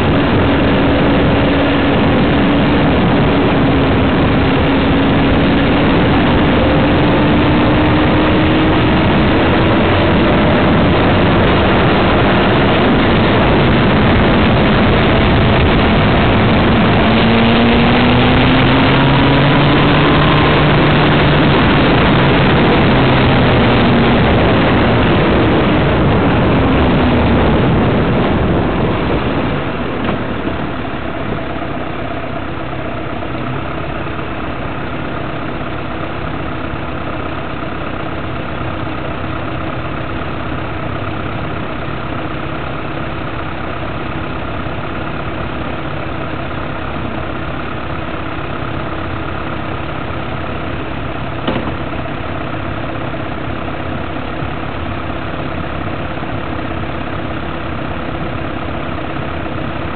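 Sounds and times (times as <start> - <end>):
engine hum: 0.0 - 59.9
road and wind noise: 0.0 - 59.9.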